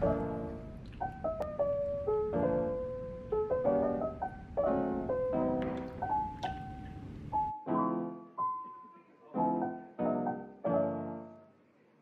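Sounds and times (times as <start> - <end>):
piano music: 0.0 - 11.6.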